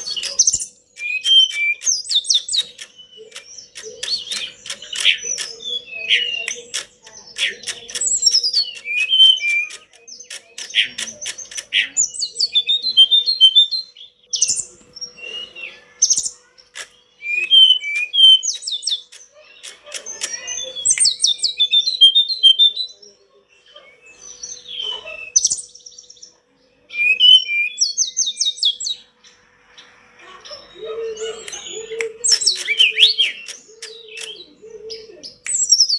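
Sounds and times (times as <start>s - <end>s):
songbird trilling and whistling: 0.0s - 29.4s, 30.4s - 35.9s.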